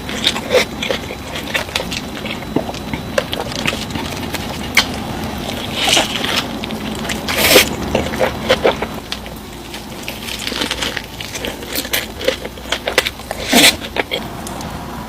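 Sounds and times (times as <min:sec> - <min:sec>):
crisp food crunches: 0:00.0 - 0:14.7
wet chewing: 0:00.0 - 0:14.8.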